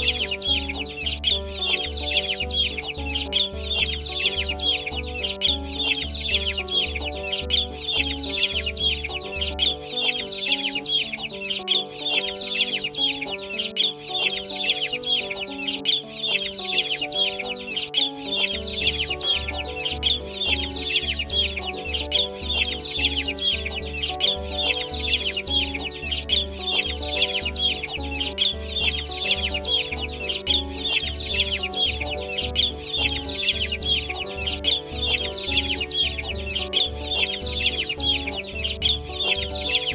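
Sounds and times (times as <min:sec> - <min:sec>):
background music with steady beat: 0:00.0 - 0:39.9
chickens chirping: 0:00.0 - 0:39.9.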